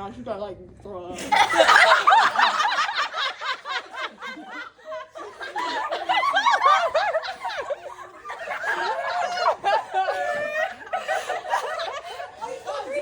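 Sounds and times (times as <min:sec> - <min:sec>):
girls laughing and giggling: 0:01.2 - 0:13.0.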